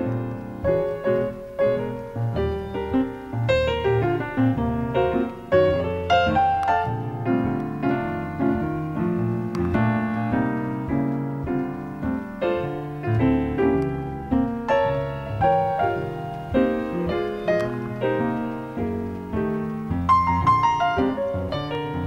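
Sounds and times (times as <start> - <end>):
jazz piano playing: 0.0 - 22.0.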